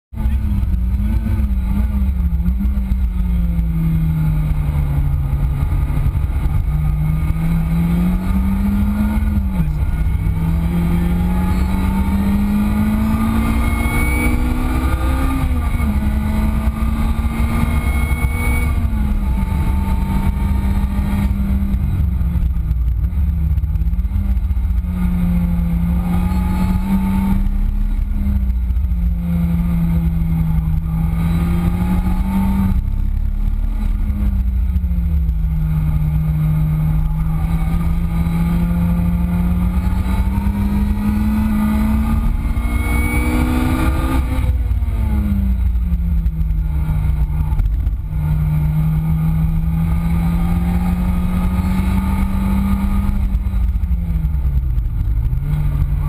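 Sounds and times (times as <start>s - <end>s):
car engine revving at speed: 0.1s - 56.0s
constant deep rumble: 0.1s - 56.0s.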